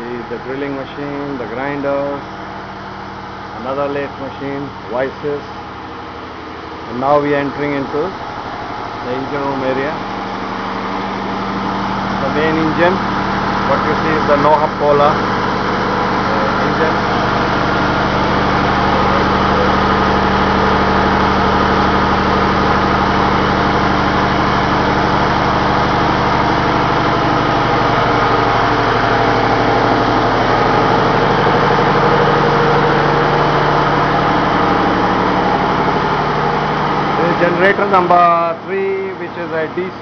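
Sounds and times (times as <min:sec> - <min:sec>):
diesel engine drone: 0:00.0 - 0:40.0.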